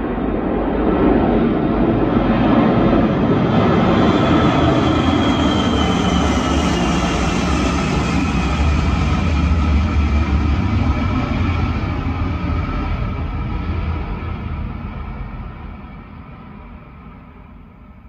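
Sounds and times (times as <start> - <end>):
jet engine roar with deep bass: 0.0 - 18.0.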